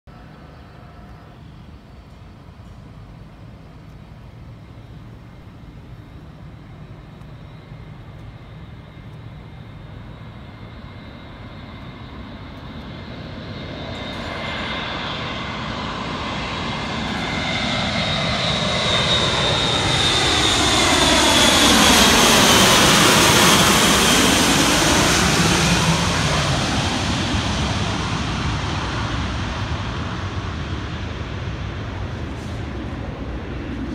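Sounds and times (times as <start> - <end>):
turboprop aircraft flying overhead: 0.1 - 33.9.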